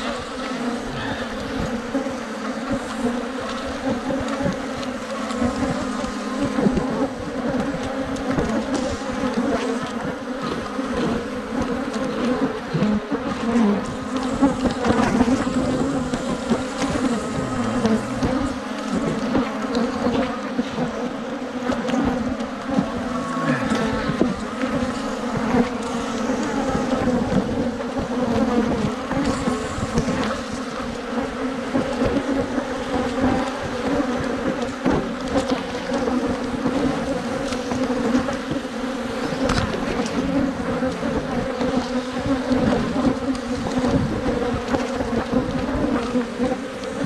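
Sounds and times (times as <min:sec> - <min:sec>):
swarm of bees buzzing: 0:00.0 - 0:47.0.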